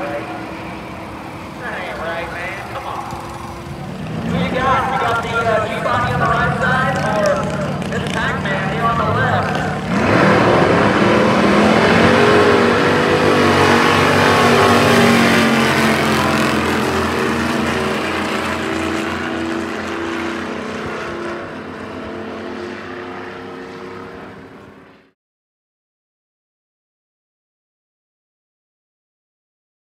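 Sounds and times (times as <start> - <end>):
race car engine at full throttle: 0.0 - 25.2.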